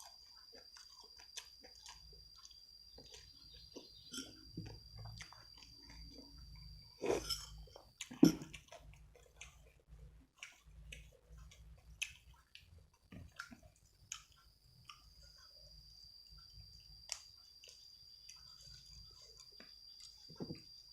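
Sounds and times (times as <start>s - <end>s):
chewing and wet mouth noises: 0.0s - 20.9s.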